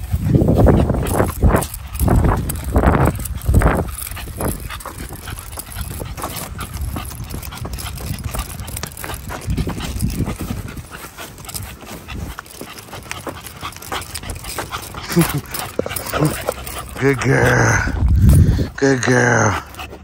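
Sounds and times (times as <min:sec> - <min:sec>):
dog panting: 0:00.0 - 0:20.0
footsteps on asphalt: 0:00.0 - 0:20.0.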